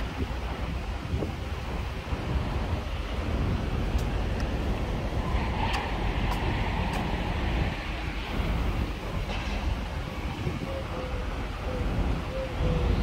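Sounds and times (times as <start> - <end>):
passing vehicle rumble: 1.6 - 13.0.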